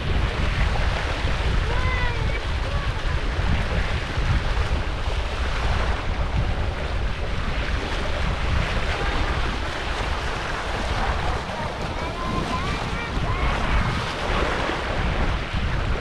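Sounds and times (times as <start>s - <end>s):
rushing water: 0.0s - 16.0s
wind buffeting microphone: 0.0s - 16.0s.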